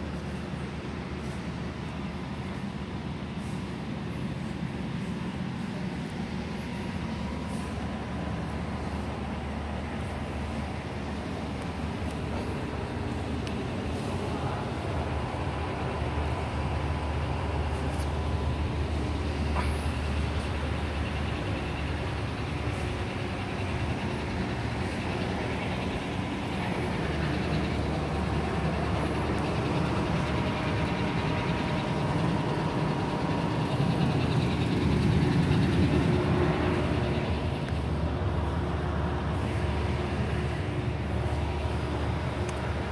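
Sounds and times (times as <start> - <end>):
hall background rumble: 0.0 - 42.9.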